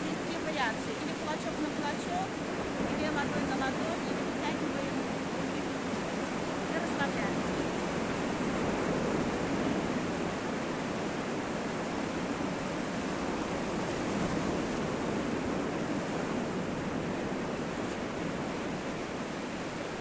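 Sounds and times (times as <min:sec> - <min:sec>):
sea surf breaking on shore: 0:00.0 - 0:20.0.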